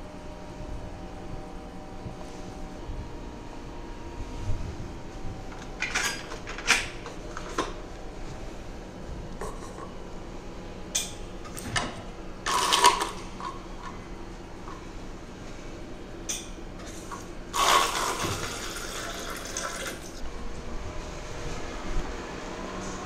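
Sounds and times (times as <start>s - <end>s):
low hum of ferry: 0.0s - 23.0s.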